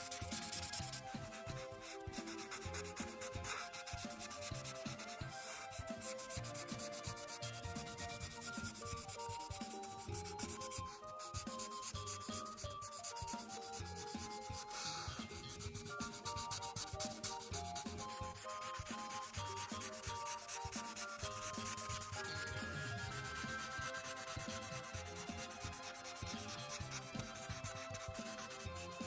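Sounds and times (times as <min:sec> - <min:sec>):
marker scratching on paper: 0:00.0 - 0:29.0
soft background music: 0:00.0 - 0:29.0.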